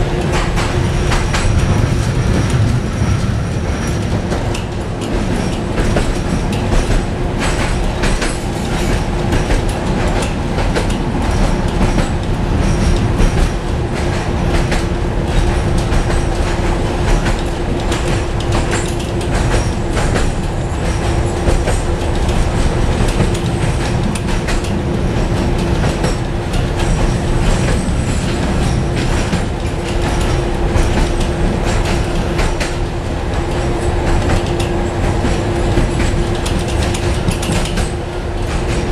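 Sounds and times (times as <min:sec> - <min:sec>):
tram wheels rumbling on rail: 0:00.0 - 0:38.9.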